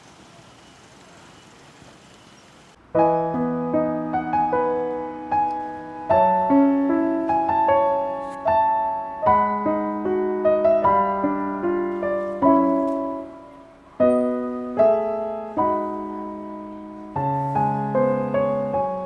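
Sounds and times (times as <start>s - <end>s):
slow piano chords: 2.8s - 19.0s.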